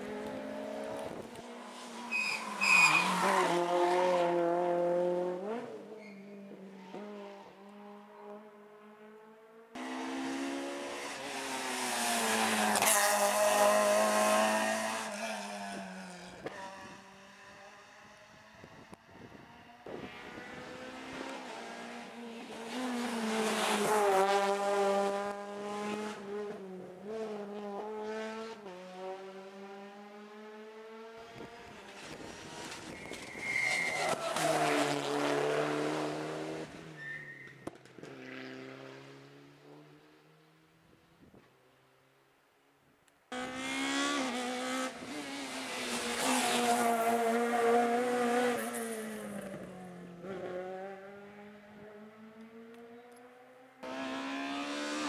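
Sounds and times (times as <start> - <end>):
race car passing: 0.0 - 37.0, 38.0 - 40.6, 43.3 - 55.0.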